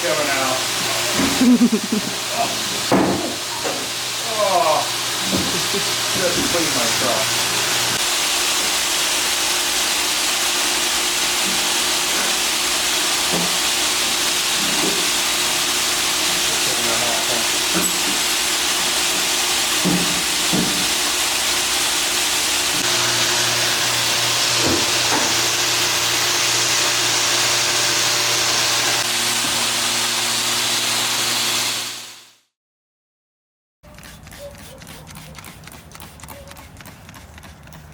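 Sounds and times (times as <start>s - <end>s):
cleaning tool hissing rush: 0.0s - 32.3s.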